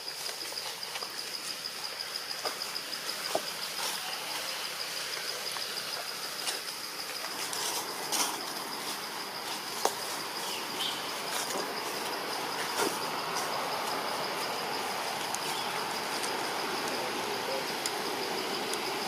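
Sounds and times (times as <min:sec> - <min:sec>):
forest ambience hiss: 0:00.0 - 0:19.0
insects trilling: 0:00.0 - 0:19.0.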